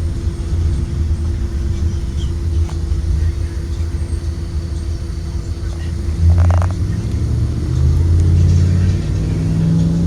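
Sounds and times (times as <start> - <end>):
bus engine rumble: 0.0 - 10.0
road noise: 0.0 - 10.0
steady hum: 0.0 - 10.0.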